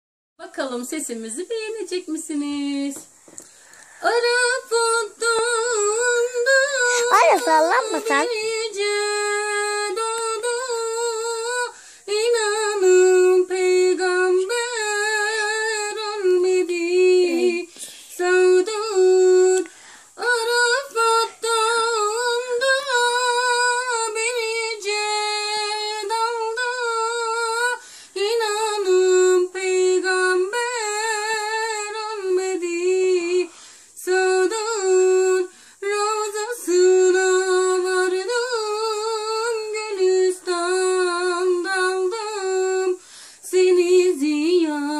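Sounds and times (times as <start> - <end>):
woman singing solo: 4.0 - 44.9.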